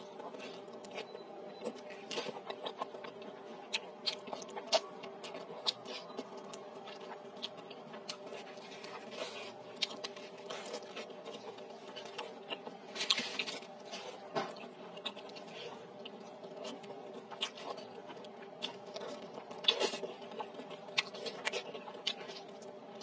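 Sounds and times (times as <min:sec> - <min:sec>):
faint steady hum: 0:00.0 - 0:23.0
chewing and lip smacks: 0:00.1 - 0:23.0.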